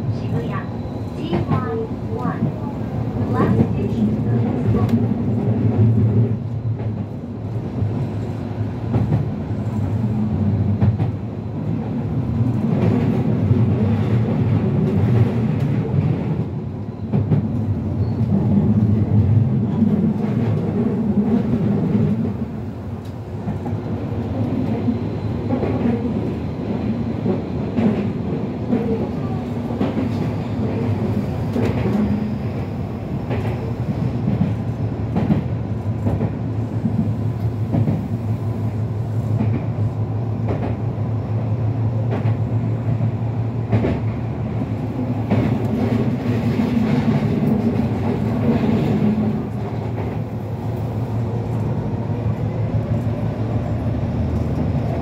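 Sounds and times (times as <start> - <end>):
train wheels running on rail: 0.0 - 55.0.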